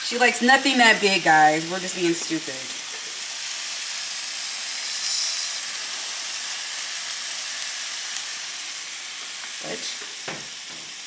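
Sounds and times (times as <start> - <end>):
meatballs sizzling in oil: 0.0 - 11.0.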